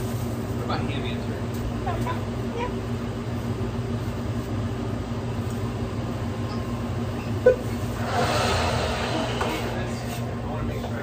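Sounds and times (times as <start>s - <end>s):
kitchen equipment electrical hum: 0.0s - 11.0s.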